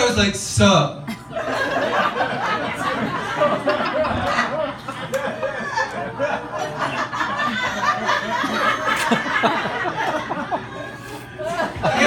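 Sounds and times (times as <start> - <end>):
audience laughing: 1.1 - 12.0.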